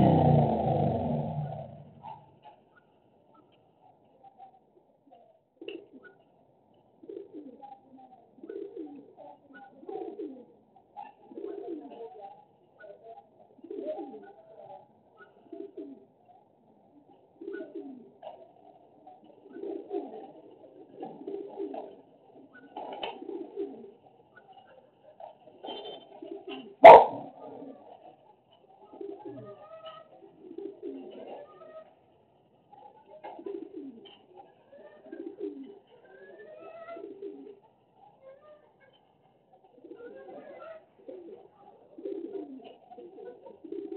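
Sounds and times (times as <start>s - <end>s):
pigeons cooing: 0.0s - 2.6s, 7.0s - 16.1s, 16.9s - 32.0s, 32.7s - 37.7s, 39.6s - 43.9s.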